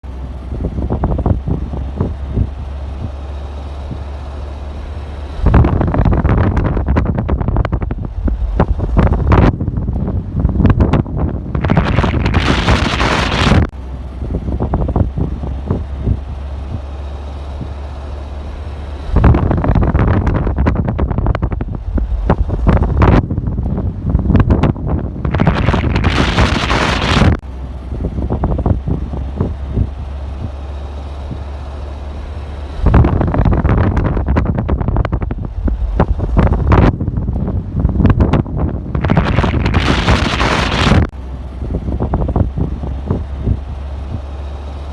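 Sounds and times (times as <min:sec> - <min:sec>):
steady low rumble: 0:00.0 - 0:44.9
wind buffeting microphone: 0:00.2 - 0:04.5, 0:05.2 - 0:18.0, 0:18.8 - 0:31.9, 0:32.6 - 0:44.7.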